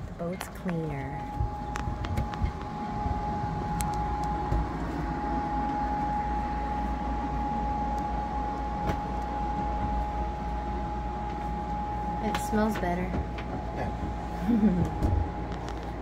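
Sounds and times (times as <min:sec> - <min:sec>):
low mechanical hum: 0:00.0 - 0:16.0
high-pitched constant tone: 0:00.2 - 0:15.6.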